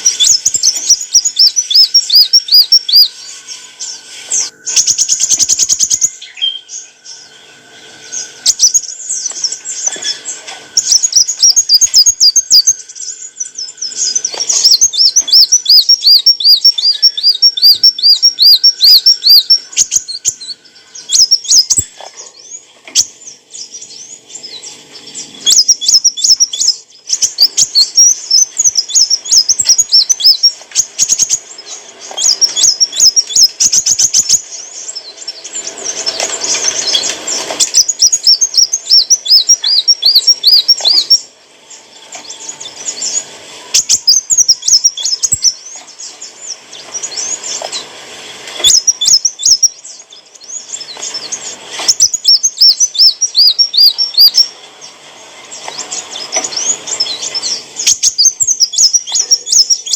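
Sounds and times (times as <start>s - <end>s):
fast rattling bird trill: 0.0s - 48.0s, 48.6s - 59.9s
bird chirping: 0.0s - 59.9s.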